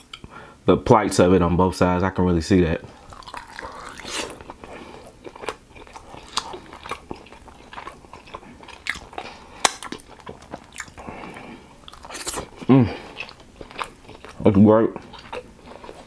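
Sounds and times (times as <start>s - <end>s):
biting and chewing: 3.0s - 16.0s.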